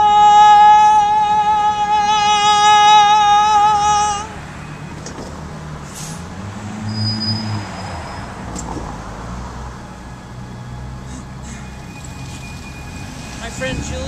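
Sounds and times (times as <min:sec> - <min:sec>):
traffic engines passing: 0:00.0 - 0:14.0.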